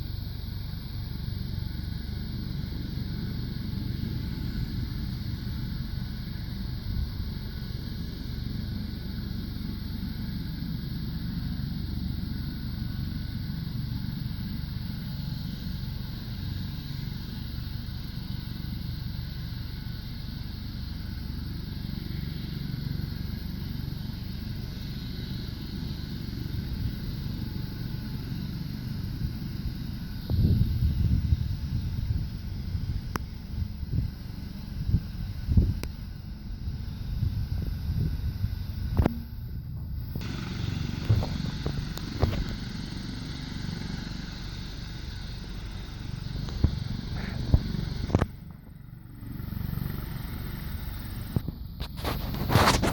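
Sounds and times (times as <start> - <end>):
helicopter rotor and turbine: 0.0 - 52.9.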